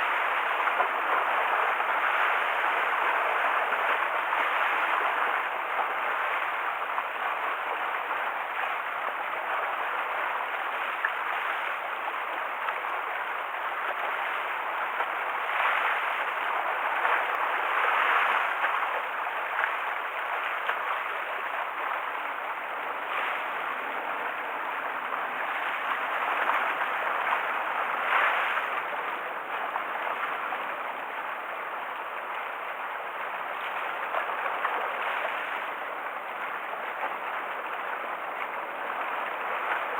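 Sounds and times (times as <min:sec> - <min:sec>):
waves splashing against shore: 0:00.0 - 0:39.9.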